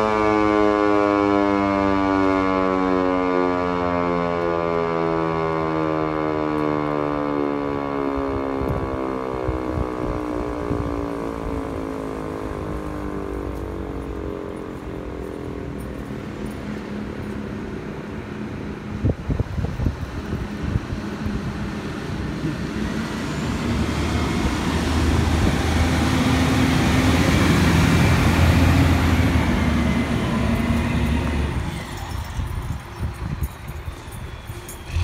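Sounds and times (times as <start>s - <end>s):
warning siren winding down: 0.0s - 35.0s.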